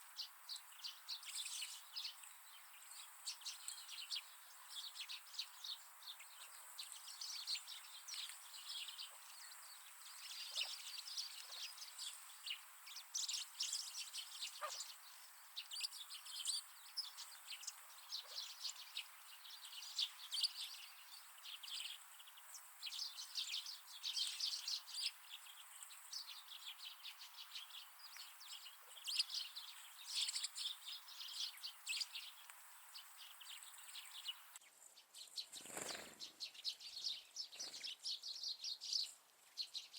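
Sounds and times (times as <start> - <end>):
birds chirping and calling: 0.1 - 34.6, 35.2 - 39.9.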